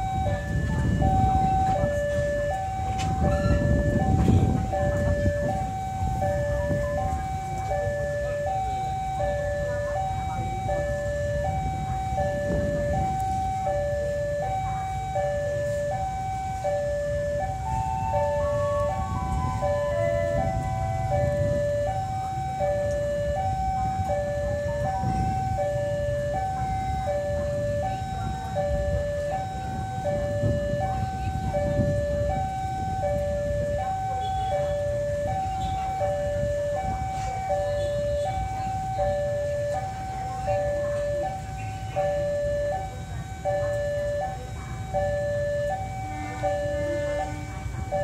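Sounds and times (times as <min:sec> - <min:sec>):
level crossing two-tone alarm: 0:00.0 - 0:48.0
train carriages rumbling past: 0:00.0 - 0:48.0.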